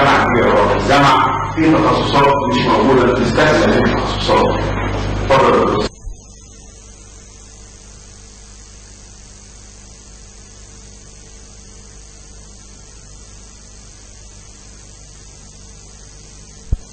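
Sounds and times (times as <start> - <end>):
electrical hum: 0.0 - 16.9
high-pitched whine and hiss: 0.0 - 16.9.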